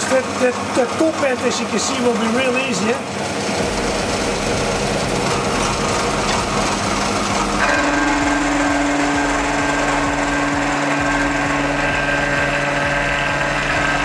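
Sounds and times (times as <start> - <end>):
milling machine cutting metal: 0.0 - 14.0.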